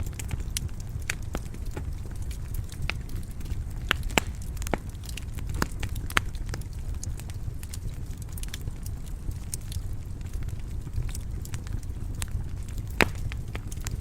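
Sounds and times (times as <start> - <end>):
fire popping and snapping: 0.0 - 14.0
low rumble of flames: 0.0 - 14.0.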